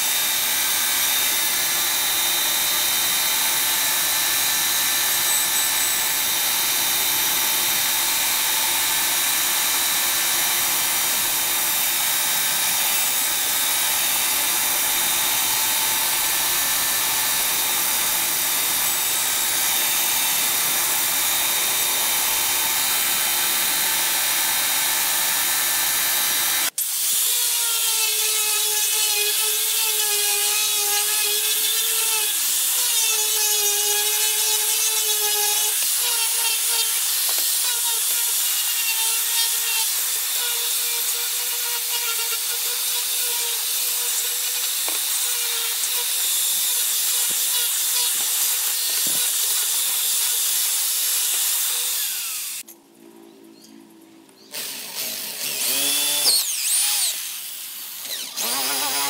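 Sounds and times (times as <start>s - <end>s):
angle grinder sanding wood: 0.0s - 52.7s, 54.6s - 59.0s
bandsaw cutting wood: 0.0s - 52.7s, 54.5s - 59.0s.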